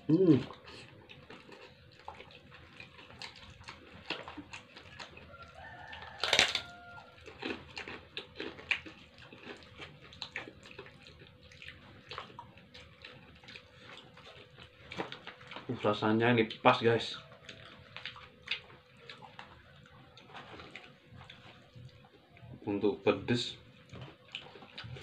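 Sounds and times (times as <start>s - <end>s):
chewing and crunching crackers: 0.0s - 25.0s.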